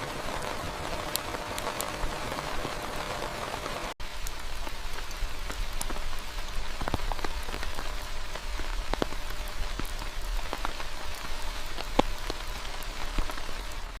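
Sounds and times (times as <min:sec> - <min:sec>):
raindrops ticking on a surface: 0:00.0 - 0:14.0
steady rain: 0:00.0 - 0:14.0.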